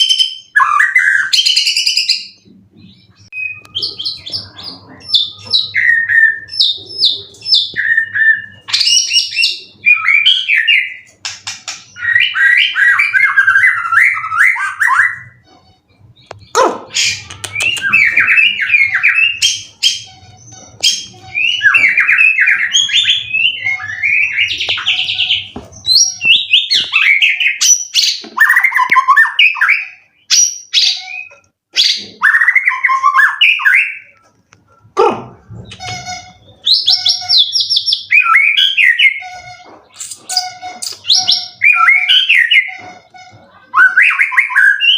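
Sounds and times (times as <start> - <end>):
songbird singing trills and whistles: 0.0 - 15.4, 16.2 - 34.2, 35.6 - 44.9.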